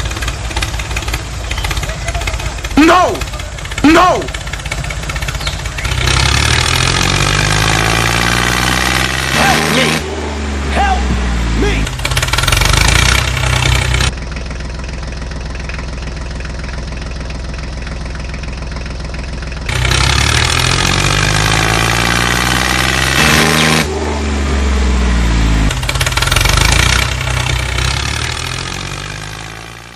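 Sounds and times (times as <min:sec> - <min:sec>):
tractor engine revving: 0:00.0 - 0:29.9.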